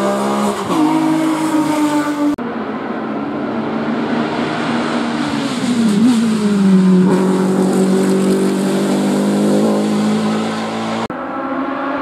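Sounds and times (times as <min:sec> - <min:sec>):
racing car engine passing: 0:00.0 - 0:12.0.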